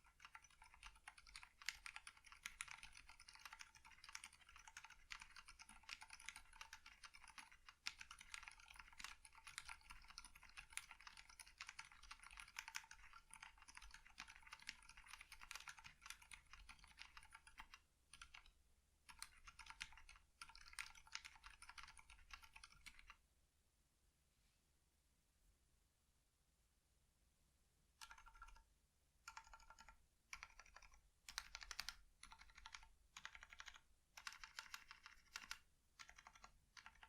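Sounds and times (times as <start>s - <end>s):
fast typing on mechanical keyboard: 0.0s - 18.5s, 19.1s - 23.2s, 28.0s - 28.6s, 29.3s - 37.0s.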